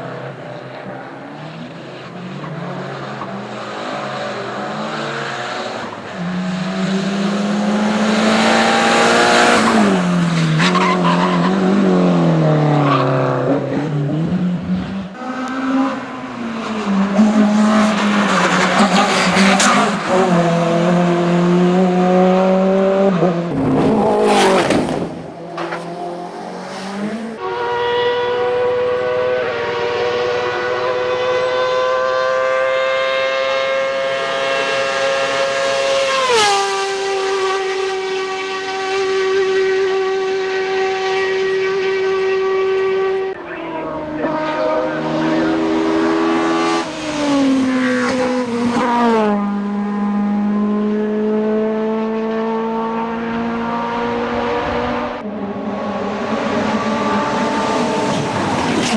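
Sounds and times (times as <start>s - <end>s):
race car engines running hard: 0.0s - 58.9s
race car passing close: 0.0s - 58.9s.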